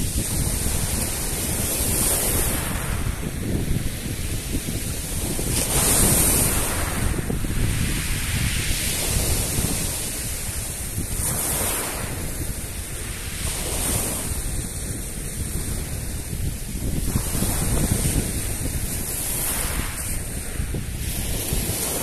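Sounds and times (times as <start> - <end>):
surf breaking at shore: 0.0 - 22.0
wind buffeting microphone: 0.0 - 22.0.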